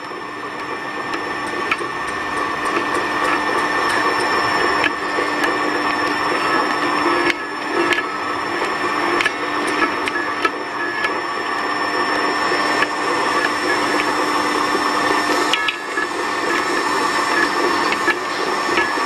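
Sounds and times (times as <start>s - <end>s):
electric winch motor whining: 0.0s - 19.0s.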